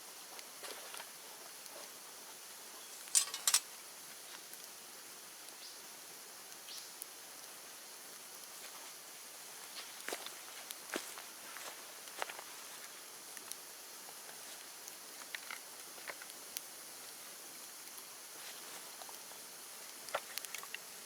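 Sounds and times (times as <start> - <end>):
bonfire hissing: 0.0 - 21.0
fire crackles: 0.0 - 21.0.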